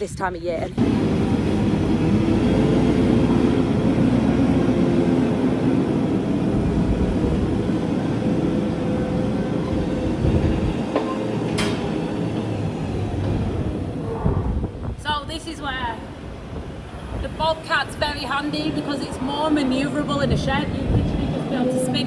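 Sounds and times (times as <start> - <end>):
loader engine running: 0.8 - 15.0, 15.7 - 22.0.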